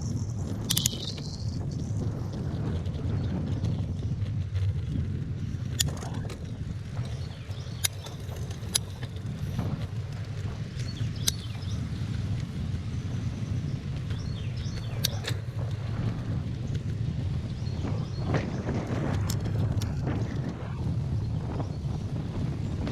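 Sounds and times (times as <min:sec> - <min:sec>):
bicycle clicks and rattles: 0:00.0 - 0:22.9
wind rumbling on microphone: 0:00.0 - 0:22.9.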